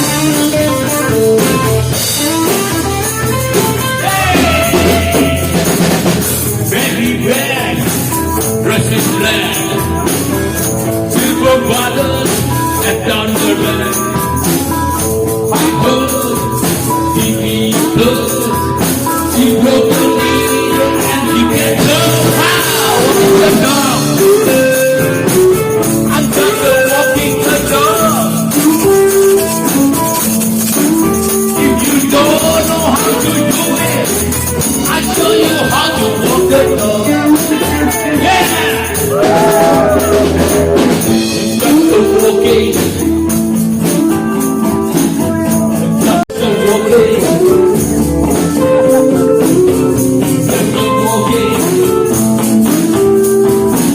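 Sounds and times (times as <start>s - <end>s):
blues-rock band playing: 0.0s - 53.9s
guitar: 0.0s - 53.9s
tambourine: 0.0s - 53.9s.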